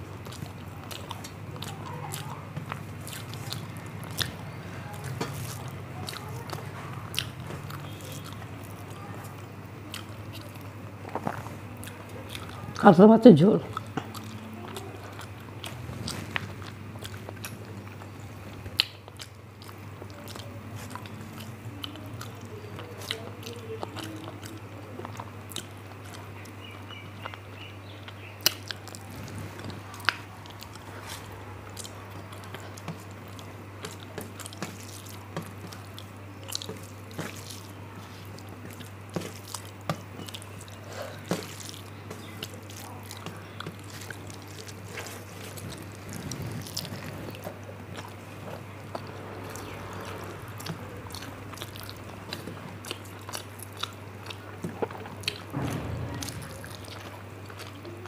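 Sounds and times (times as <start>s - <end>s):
person chewing food: 0.0s - 12.8s, 13.6s - 58.0s
steady low hum: 0.0s - 58.0s.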